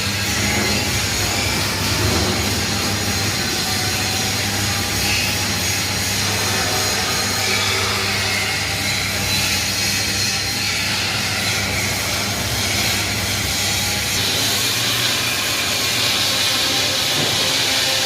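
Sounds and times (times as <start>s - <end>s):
welding arc hissing: 0.1s - 10.9s, 11.7s - 18.0s.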